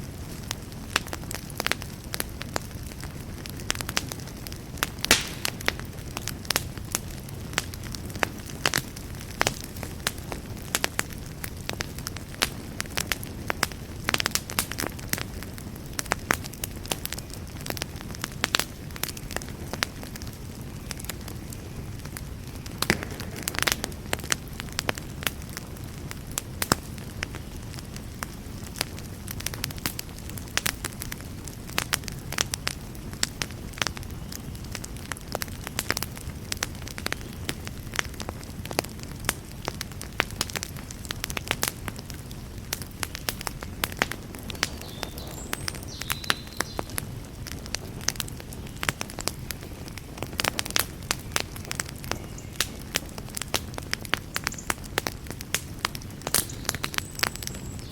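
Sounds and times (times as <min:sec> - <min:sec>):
low rumble of flame: 0:00.0 - 0:57.9
wood fire crackling and popping: 0:00.0 - 0:57.9.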